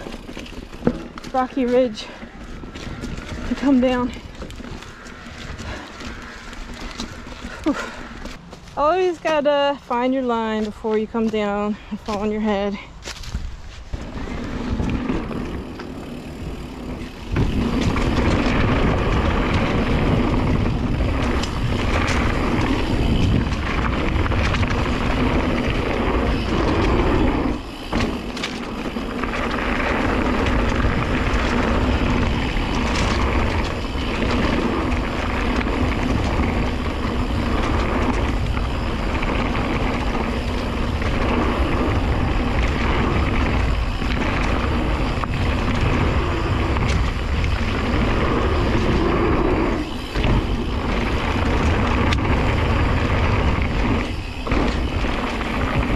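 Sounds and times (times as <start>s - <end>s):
tyres rumbling on rock: 0.0s - 55.9s
wind noise on microphone: 0.0s - 55.9s.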